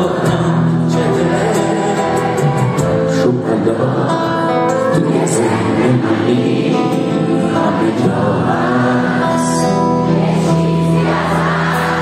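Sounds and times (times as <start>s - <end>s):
live pop band with singer: 0.0s - 12.0s.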